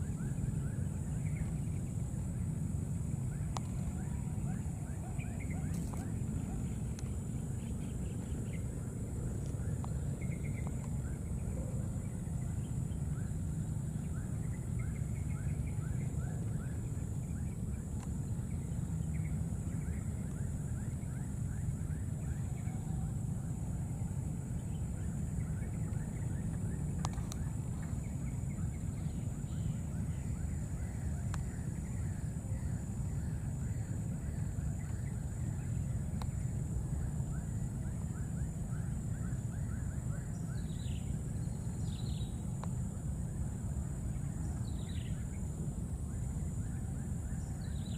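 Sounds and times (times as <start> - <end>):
high-pitched whine: 0.0 - 47.9
steady low rumble: 0.0 - 47.9.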